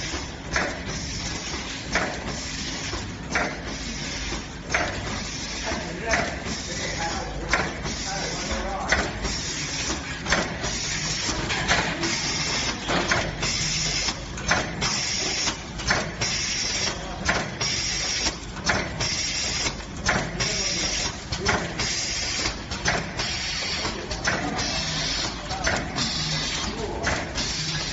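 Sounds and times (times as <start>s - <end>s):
machine hiss and whir: 0.0s - 27.9s
packing machine clacking: 0.0s - 27.9s.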